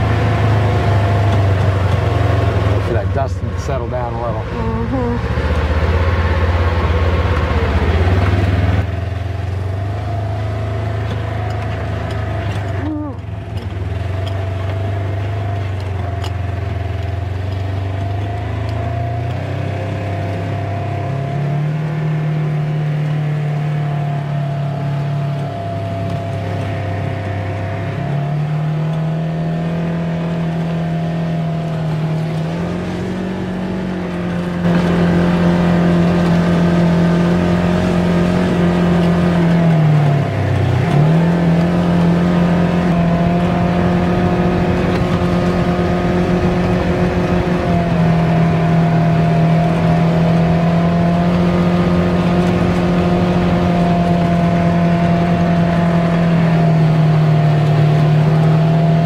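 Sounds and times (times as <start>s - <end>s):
engine running: 0.0s - 59.0s
gravel noise: 0.0s - 59.0s.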